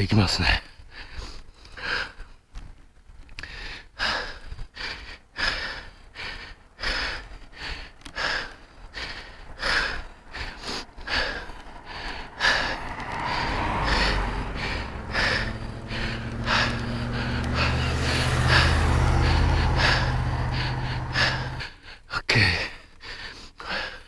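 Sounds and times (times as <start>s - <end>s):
person panting hard: 0.8s - 2.4s, 3.4s - 22.1s, 22.9s - 24.0s.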